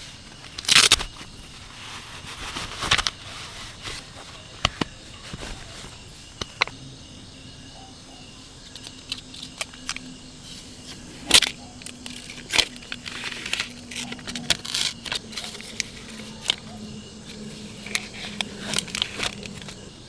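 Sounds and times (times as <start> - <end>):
small hard objects clattering: 0.0 - 6.8, 8.6 - 19.9
insects buzzing: 0.0 - 20.0.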